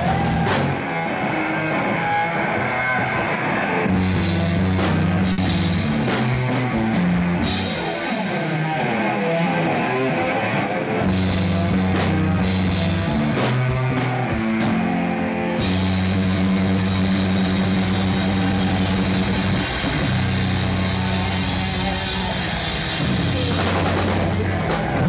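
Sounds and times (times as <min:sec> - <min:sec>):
hard rock band playing: 0:00.0 - 0:25.0.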